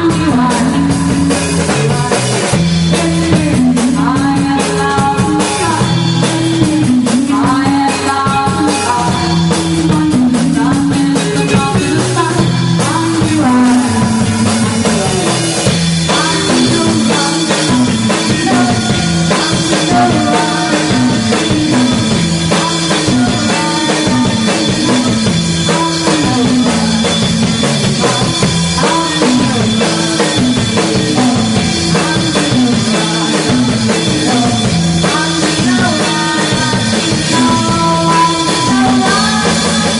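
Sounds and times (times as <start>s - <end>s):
bass guitar: 0.0s - 39.9s
drum kit: 0.0s - 39.9s
electric guitar: 0.0s - 39.9s
person singing: 0.0s - 39.9s.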